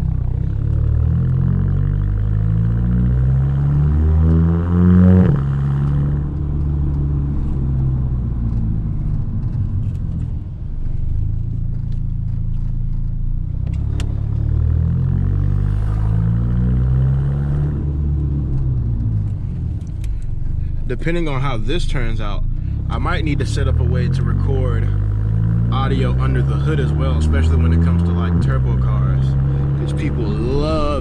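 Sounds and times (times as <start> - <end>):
car exhaust under acceleration: 0.0 - 31.0.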